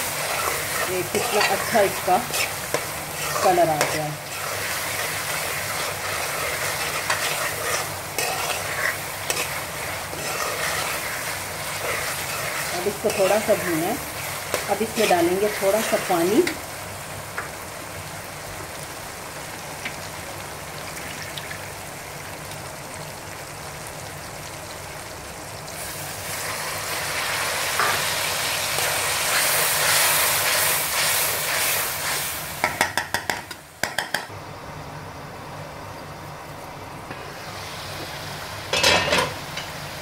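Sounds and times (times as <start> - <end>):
sauce sizzling in a pan: 0.0 - 33.2, 37.3 - 40.0.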